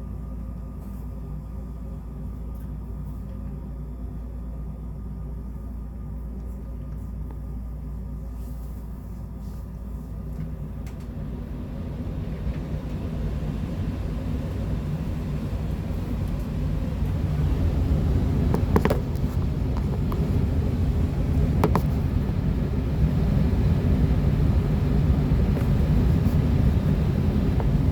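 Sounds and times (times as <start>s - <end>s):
furnace humming and rumbling: 0.0s - 27.9s.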